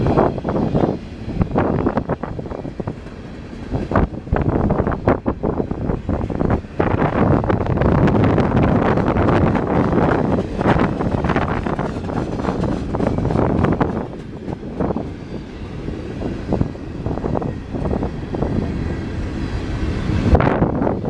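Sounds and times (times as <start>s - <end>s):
train cars knocking and clanking: 0.0s - 20.0s
freight train rumble: 0.0s - 21.0s.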